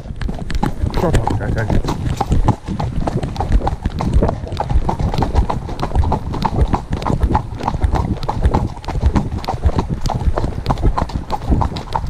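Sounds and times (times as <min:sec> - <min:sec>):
horse hooves on gravel track: 0:00.0 - 0:12.0.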